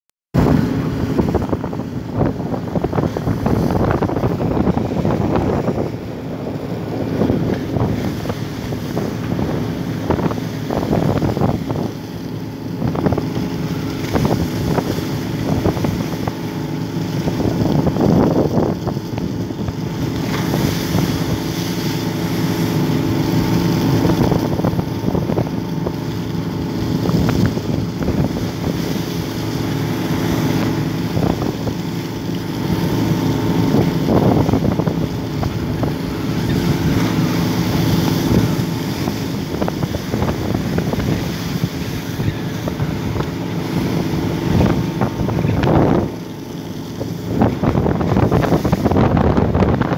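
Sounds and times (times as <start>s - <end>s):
boat engine droning: 0.4s - 49.9s
water splashing against hull: 0.4s - 49.9s.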